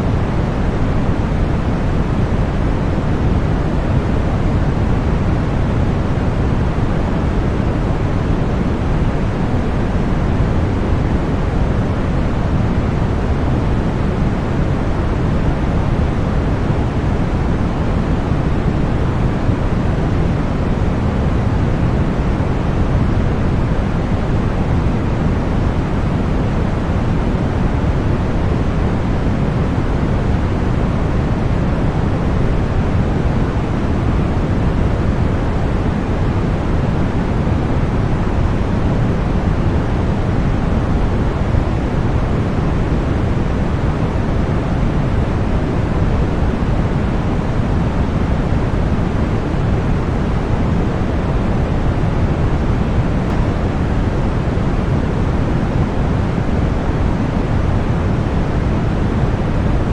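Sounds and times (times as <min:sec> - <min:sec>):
deep white noise: 0:00.0 - 0:59.9.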